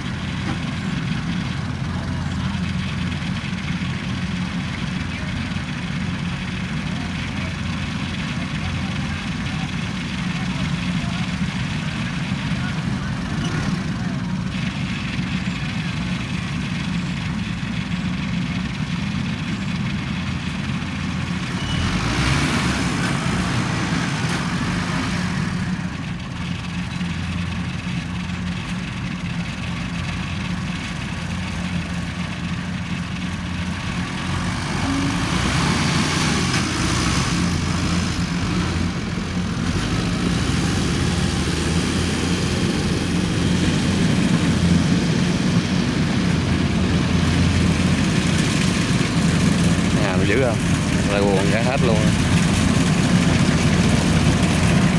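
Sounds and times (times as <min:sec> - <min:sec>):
combine harvester engine droning: 0:00.0 - 0:54.9.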